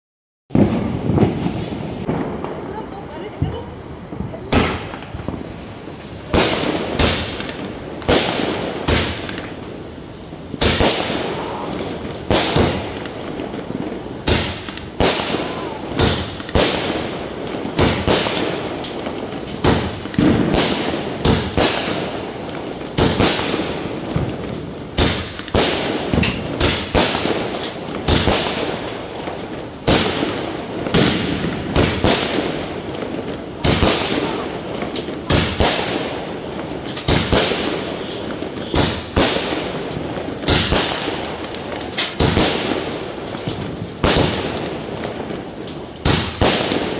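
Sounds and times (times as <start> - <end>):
fireworks bangs: 0.5 - 46.9.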